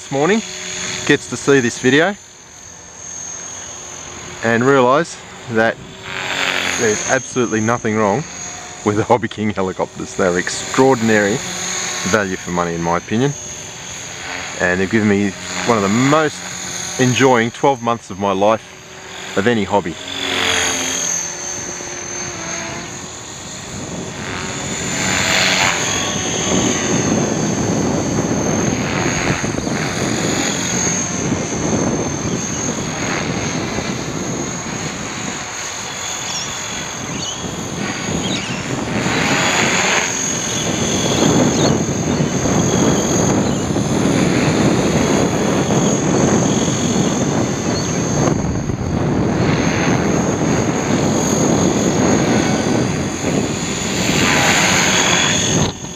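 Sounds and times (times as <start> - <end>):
helicopter rotor blades whirring: 0.0 - 55.9
thin high whine: 0.0 - 55.9.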